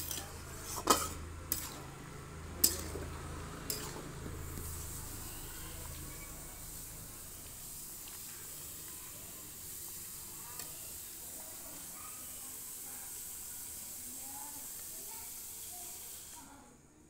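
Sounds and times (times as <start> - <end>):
meat sizzling in a pan: 0.0 - 16.6.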